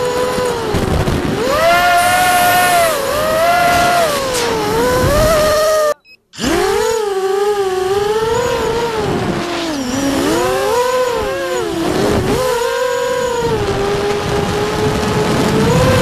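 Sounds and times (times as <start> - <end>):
drone motors and propellers whining: 0.0 - 16.0.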